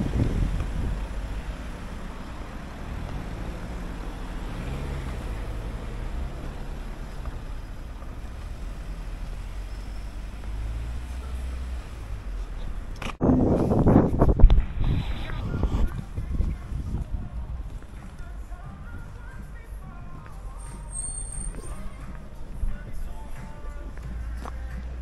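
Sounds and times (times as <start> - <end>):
car engine running: 0.0 - 21.0
steady low traffic rumble: 0.0 - 25.0.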